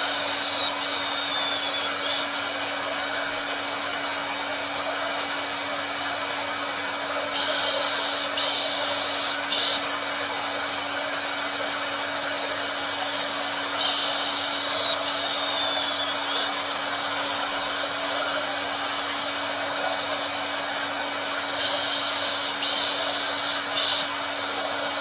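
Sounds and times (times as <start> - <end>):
blow dryer running: 0.0 - 25.0.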